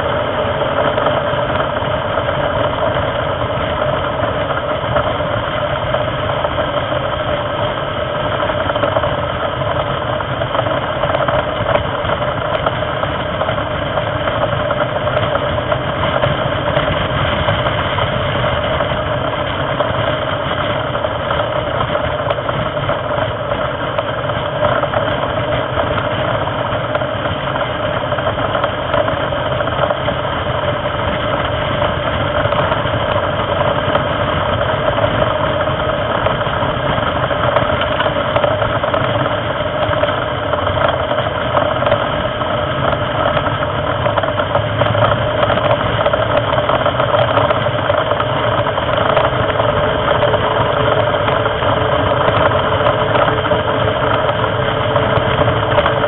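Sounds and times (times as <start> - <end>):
race car engine running hard: 0.0 - 56.0
road and wind noise: 0.0 - 56.0.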